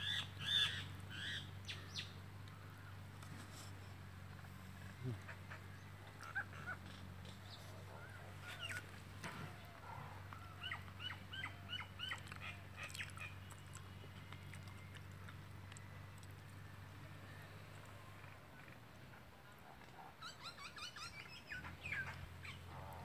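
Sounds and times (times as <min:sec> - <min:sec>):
bird chirping: 0:00.0 - 0:04.0, 0:04.8 - 0:23.0
low steady hum: 0:00.0 - 0:23.0.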